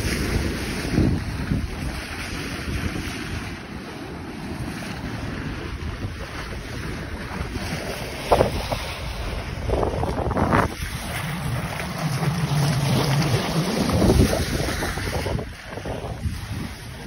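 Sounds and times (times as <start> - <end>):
sea water rushing past bow: 0.0 - 17.0
water splash: 0.0 - 17.0
wind buffeting microphone: 0.0 - 17.0.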